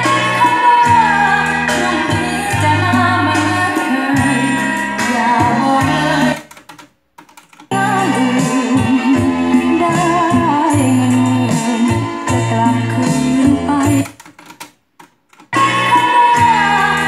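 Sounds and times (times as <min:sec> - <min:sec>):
song with singing from cassette: 0:00.0 - 0:06.8, 0:07.6 - 0:14.6, 0:15.4 - 0:17.0.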